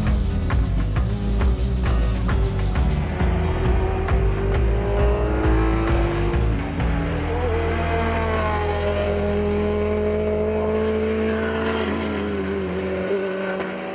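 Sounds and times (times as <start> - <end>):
race car engine at high revs: 0.0 - 13.9.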